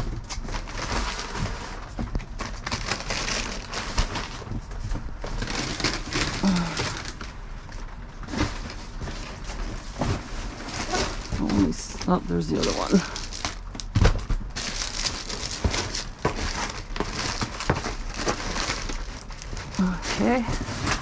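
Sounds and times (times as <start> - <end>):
trash bags rustling and crunching: 0.0 - 21.0.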